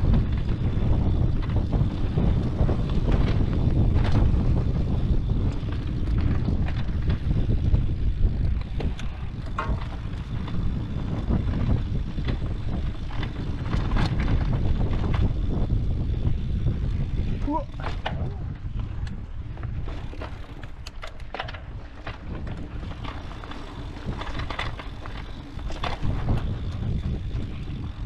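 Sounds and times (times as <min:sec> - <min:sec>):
bike clicks and knocks over bumps: 0:00.0 - 0:28.0
wind buffeting microphone: 0:00.0 - 0:28.0.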